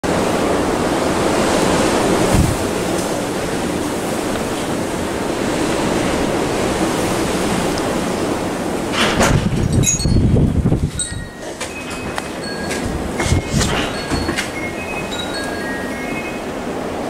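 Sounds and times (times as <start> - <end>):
gusty wind rushing: 0.0 - 17.0.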